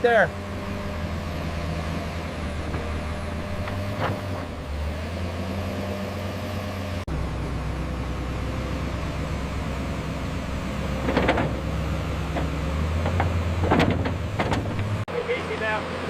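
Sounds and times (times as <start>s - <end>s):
diesel machinery engine drone: 0.0s - 16.0s.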